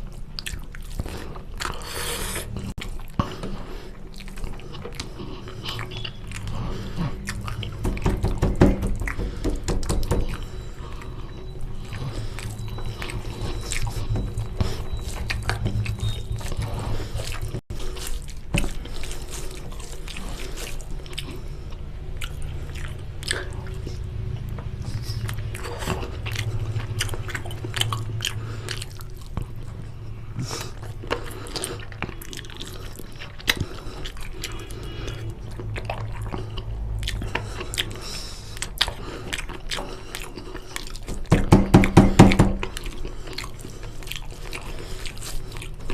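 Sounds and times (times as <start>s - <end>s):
wet chewing mouth sounds: 0.0s - 45.9s.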